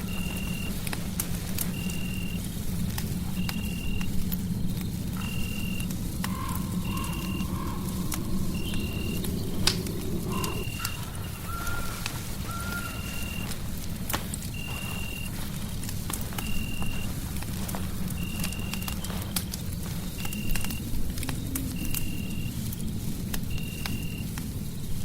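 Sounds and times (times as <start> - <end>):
faint hum: 0.0 - 24.6
fireplace crackling: 0.0 - 25.0.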